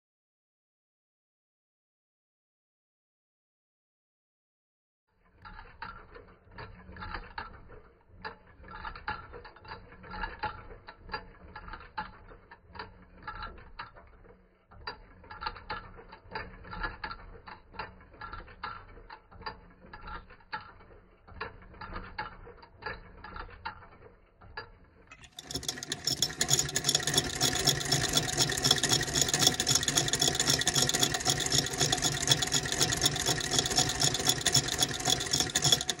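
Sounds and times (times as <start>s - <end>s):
fast mechanical clatter: 5.2s - 36.0s
sewing machine mechanism clicking: 5.4s - 36.0s.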